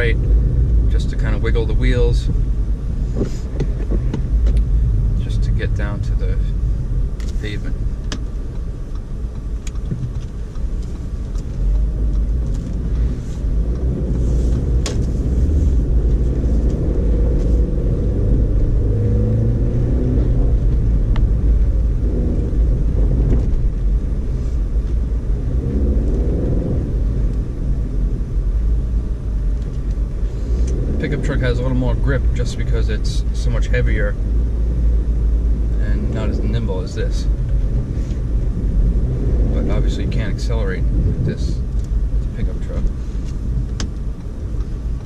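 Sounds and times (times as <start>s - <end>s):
car cabin road and engine rumble: 0.0s - 45.0s.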